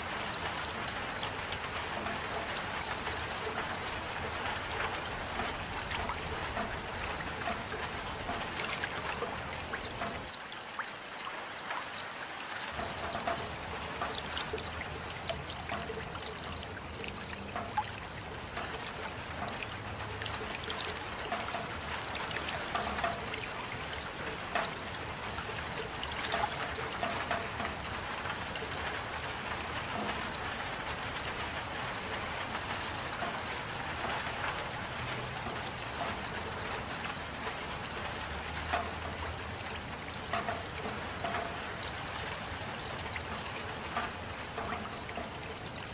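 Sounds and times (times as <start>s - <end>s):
raindrops ticking: 0.0s - 45.9s.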